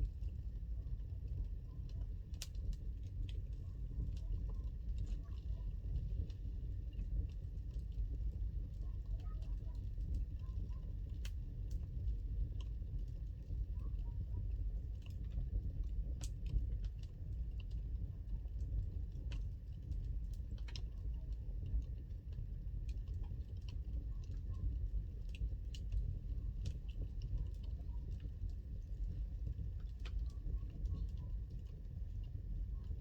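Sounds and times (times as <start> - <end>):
low steady rumble: 0.0 - 33.0
wood fire crackling and popping: 0.0 - 33.0.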